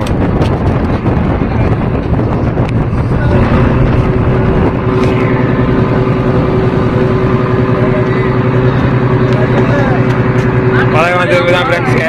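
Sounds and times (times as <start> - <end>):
boat engine running steadily: 0.0 - 12.0.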